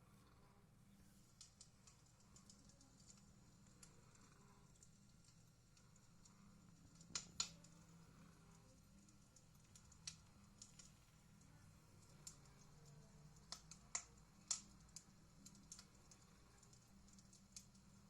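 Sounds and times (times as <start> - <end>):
low steady hum: 0.0 - 18.0
wood fire crackling from speaker: 1.0 - 18.0.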